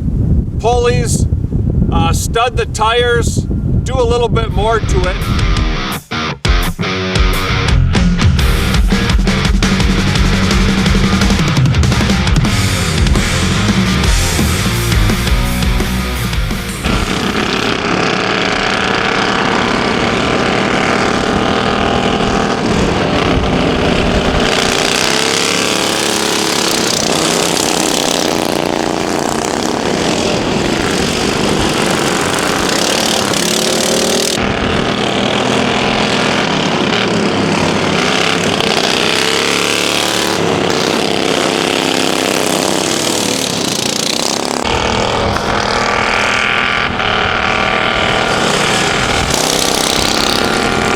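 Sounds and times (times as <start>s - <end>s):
lawn mower engines revving: 8.3s - 50.9s.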